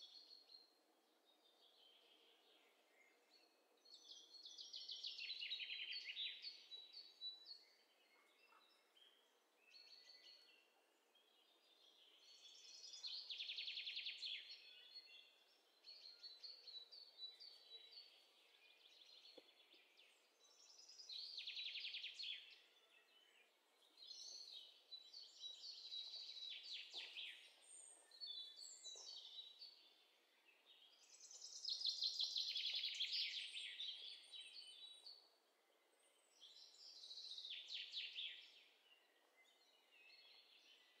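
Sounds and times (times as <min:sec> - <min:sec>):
songbird trills and chirps: 0:00.0 - 0:41.0.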